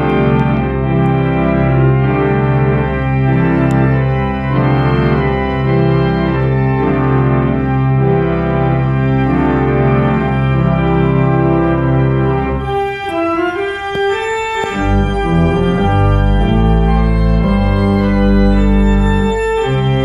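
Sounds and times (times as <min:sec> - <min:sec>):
held organ bass: 0:00.0 - 0:20.0
pipe organ chords: 0:00.0 - 0:20.0.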